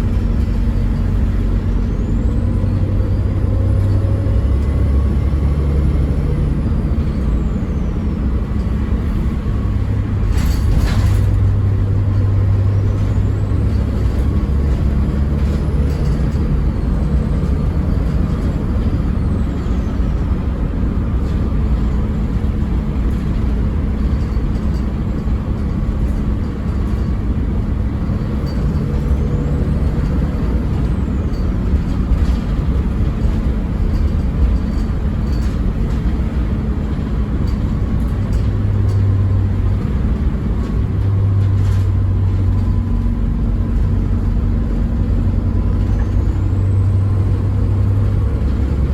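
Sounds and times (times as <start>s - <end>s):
bus diesel engine running: 0.0s - 48.9s.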